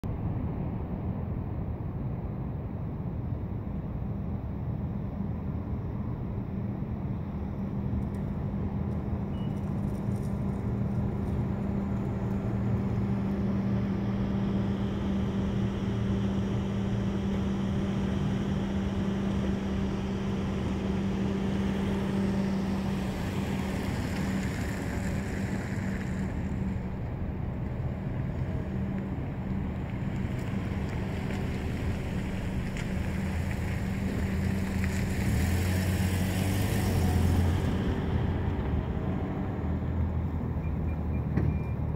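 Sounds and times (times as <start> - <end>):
car engine humming: 6.9 - 41.9.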